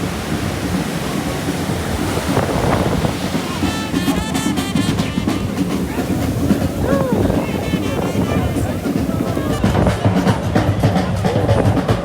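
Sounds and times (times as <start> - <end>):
ocean waves washing ashore: 0.0 - 12.0
wind buffeting microphone: 0.0 - 12.0.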